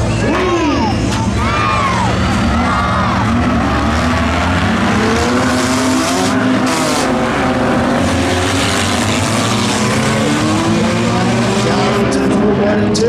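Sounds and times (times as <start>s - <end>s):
race car engines at full throttle: 0.0s - 13.0s.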